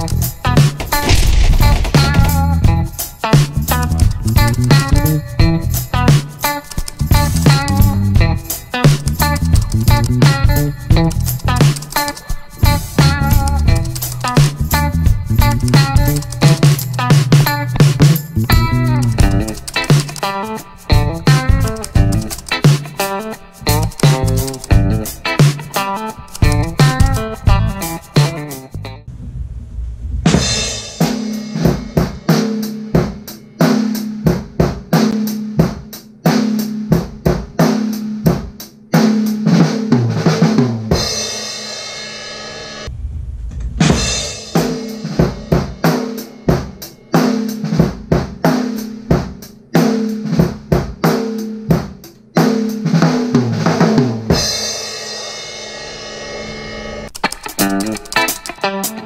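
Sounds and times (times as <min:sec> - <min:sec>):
drum kit groove: 0:00.0 - 0:29.0, 0:30.2 - 0:59.0.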